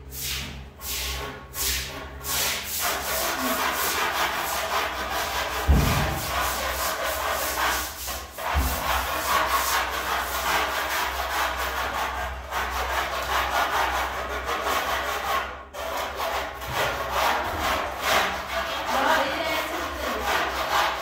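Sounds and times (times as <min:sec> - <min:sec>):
rasping strokes: 0:00.8 - 0:21.0.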